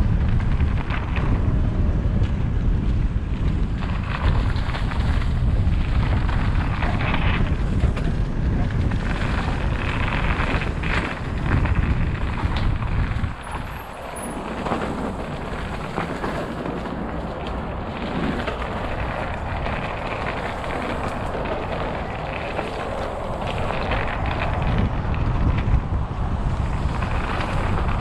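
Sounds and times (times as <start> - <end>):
bike rattles: 0.0 - 28.0
tyres rolling over leaves and dirt: 0.0 - 28.0
wind rushing over microphone: 0.0 - 28.0.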